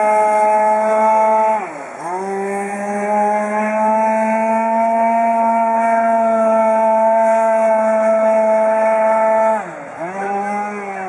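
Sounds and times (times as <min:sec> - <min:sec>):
model boat engine running high: 0:00.0 - 0:11.0.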